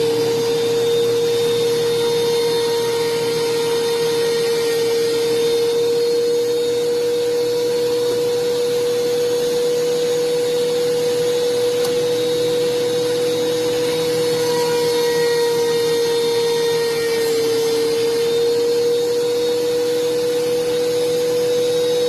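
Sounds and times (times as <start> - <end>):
thickness planer whine: 0.0 - 22.0.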